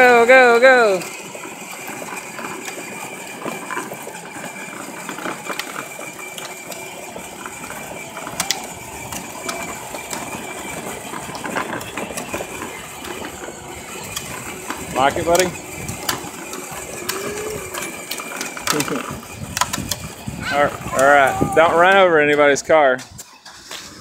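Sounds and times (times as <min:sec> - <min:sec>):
toy car motor and gearbox whine: 0:00.0 - 0:24.0.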